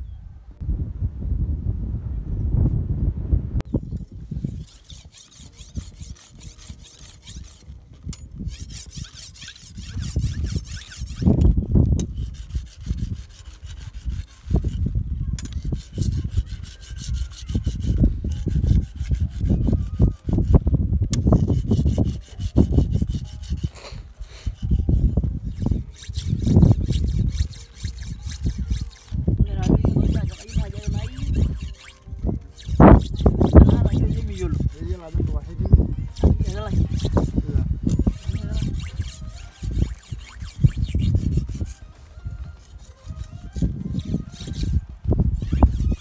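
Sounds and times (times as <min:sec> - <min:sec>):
machete scraping on stone: 0:03.7 - 0:46.0.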